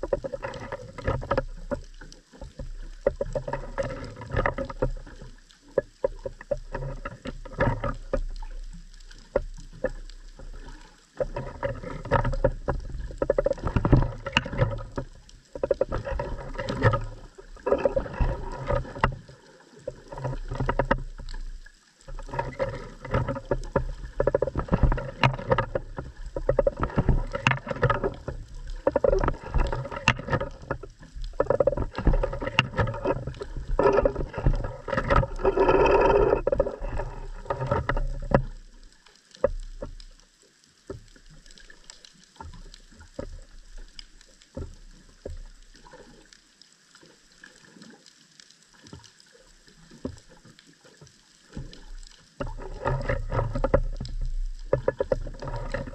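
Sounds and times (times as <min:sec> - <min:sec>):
underwater clicks and knocks: 0:00.0 - 0:55.9
underwater surging water: 0:00.0 - 0:55.9.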